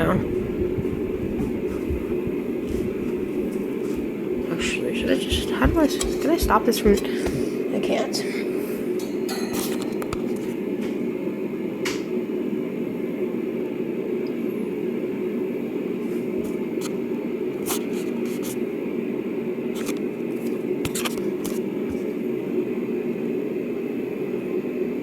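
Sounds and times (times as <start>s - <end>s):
fan blades rushing air: 0.0s - 25.0s.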